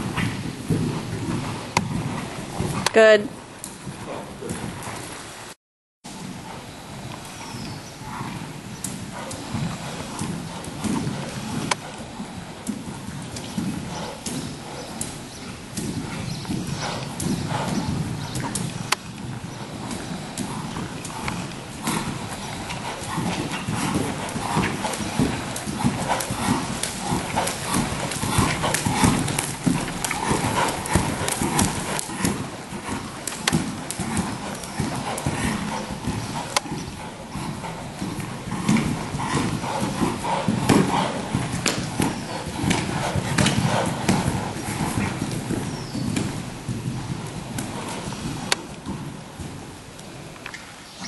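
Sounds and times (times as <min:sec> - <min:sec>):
horse hoofbeats trotting on sand: 0:00.0 - 0:05.1, 0:06.1 - 0:51.0.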